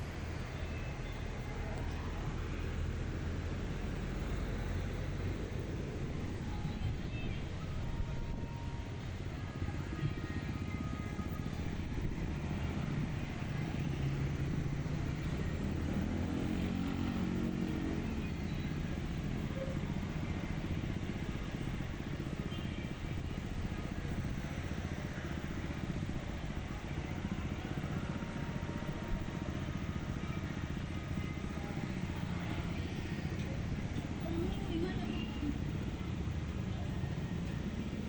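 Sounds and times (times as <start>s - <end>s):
traffic engines rumbling: 0.0s - 38.0s
engine passing close: 1.3s - 38.0s.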